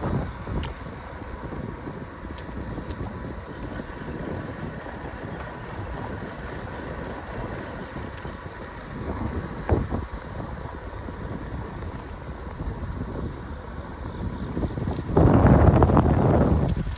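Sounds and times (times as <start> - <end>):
bicycle tyre noise: 0.0 - 16.9
wind buffeting microphone: 0.0 - 16.9.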